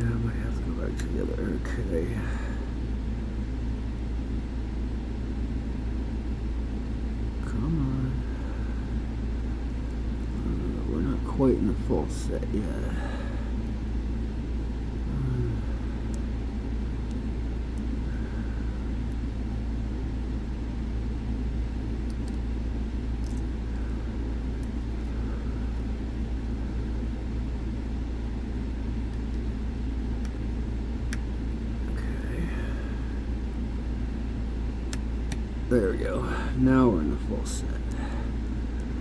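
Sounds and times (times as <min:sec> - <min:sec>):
low background rumble: 0:00.0 - 0:39.0.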